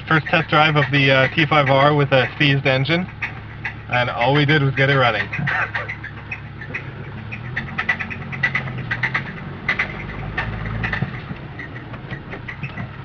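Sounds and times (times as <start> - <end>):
engine knocking clatter: 0.0 - 13.0
low engine hum: 0.0 - 13.0.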